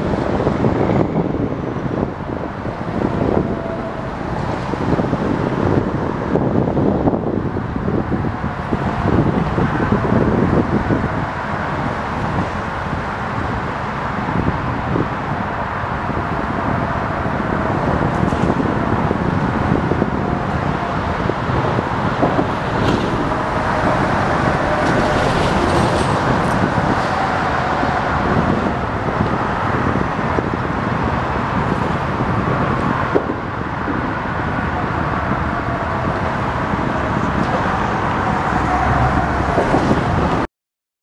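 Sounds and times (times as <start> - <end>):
engine rumbling: 0.0 - 40.5.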